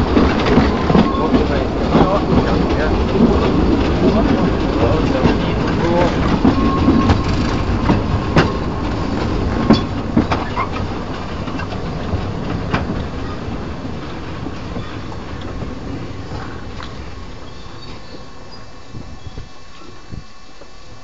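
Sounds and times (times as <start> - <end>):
wheel clicks over rail joints: 0.0 - 18.3
steam train rumbling: 0.0 - 21.0.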